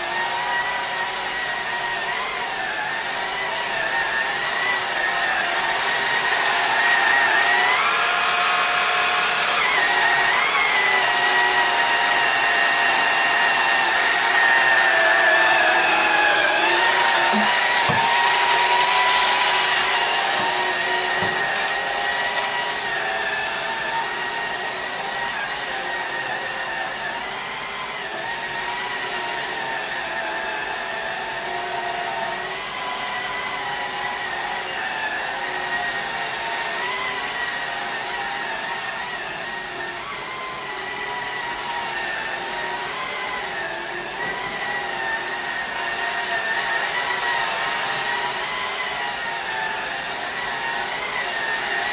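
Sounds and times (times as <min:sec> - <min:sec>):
electric sweeper motor whine: 0:00.0 - 0:51.9.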